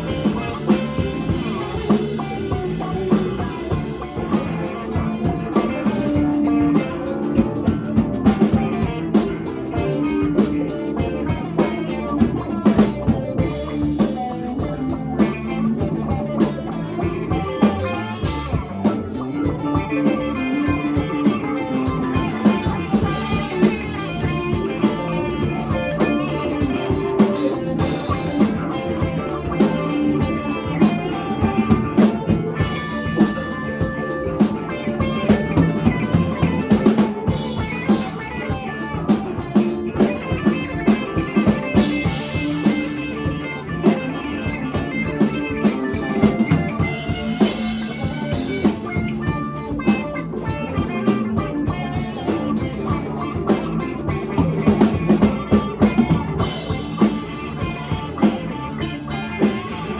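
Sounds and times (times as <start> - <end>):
drum kit beat: 0.0 - 59.9
electric guitar: 0.0 - 59.9
live rock band playing: 0.0 - 59.9.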